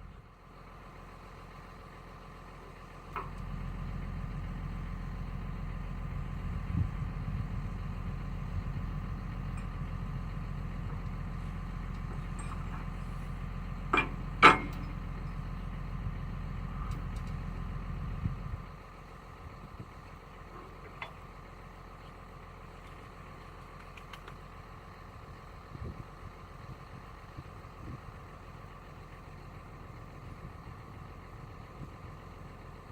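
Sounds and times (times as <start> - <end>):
diesel engine rumbling: 0.0 - 32.9.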